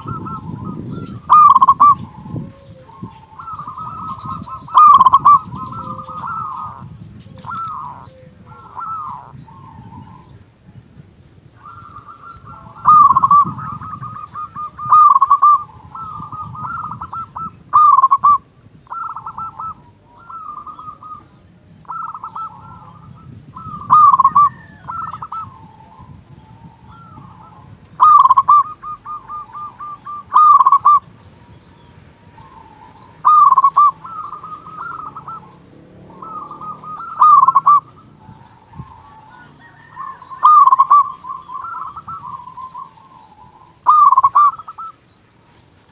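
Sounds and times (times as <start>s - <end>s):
dove cooing with rolling trills: 0.0s - 45.9s.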